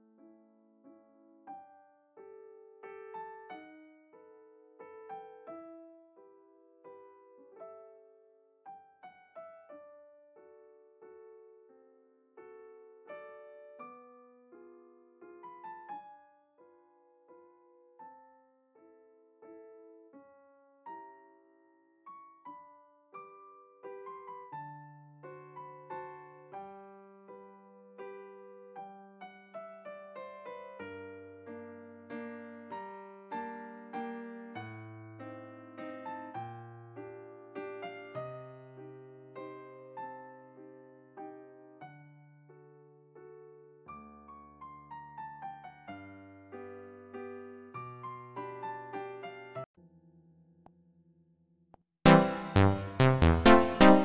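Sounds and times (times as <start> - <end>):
slow gentle solo piano: 0.0 - 49.6.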